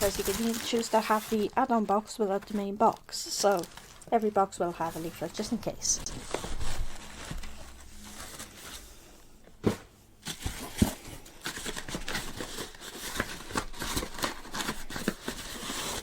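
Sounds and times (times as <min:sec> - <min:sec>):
paper packaging crinkling: 0:00.0 - 0:09.0, 0:10.2 - 0:16.0.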